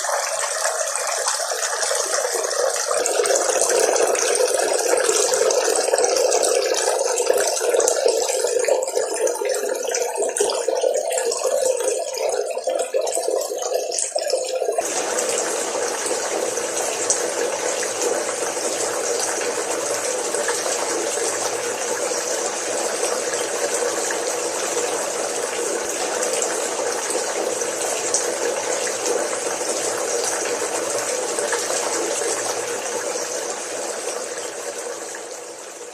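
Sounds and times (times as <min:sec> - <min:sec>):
fountain water splashing: 0:00.0 - 0:09.4, 0:14.8 - 0:35.9.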